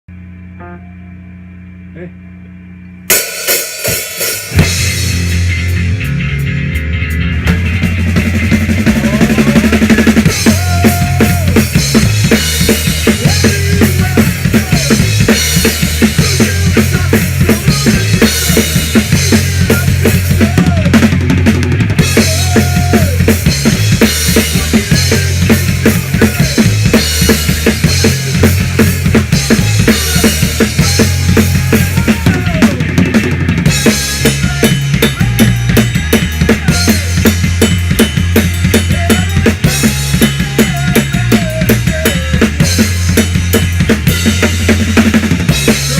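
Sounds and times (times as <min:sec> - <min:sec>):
low bass notes: 0:00.1 - 0:45.9
rock band playing: 0:03.0 - 0:45.9.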